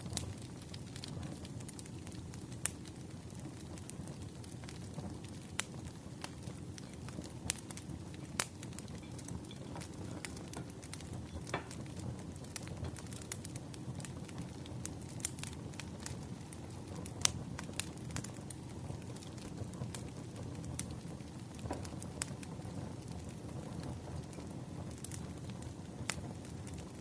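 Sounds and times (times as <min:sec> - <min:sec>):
fire crackling and popping: 0:00.0 - 0:27.0
firewood burning: 0:00.0 - 0:27.0.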